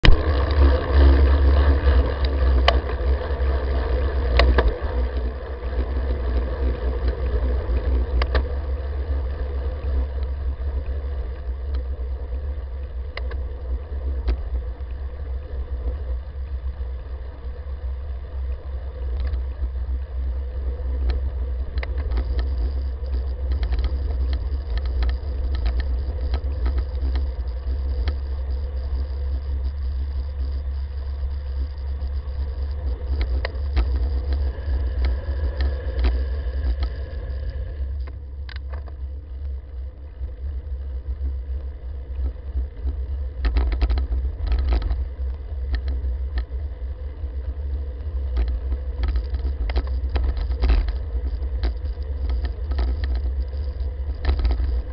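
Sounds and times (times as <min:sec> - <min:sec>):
bicycle clicks and rattles: 0:00.0 - 0:16.8, 0:19.0 - 0:54.9
tyre noise on asphalt: 0:00.0 - 0:54.9
wind rumble on microphone: 0:00.0 - 0:54.9.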